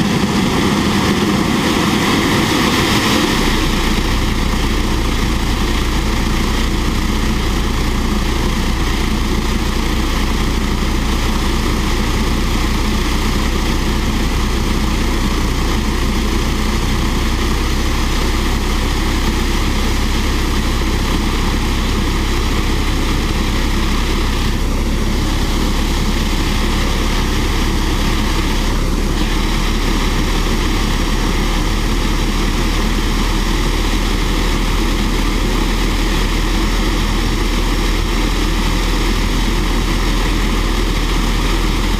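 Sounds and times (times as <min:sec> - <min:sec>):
jet engine whine: 0:00.0 - 0:41.9
turbojet engine running: 0:00.0 - 0:41.9.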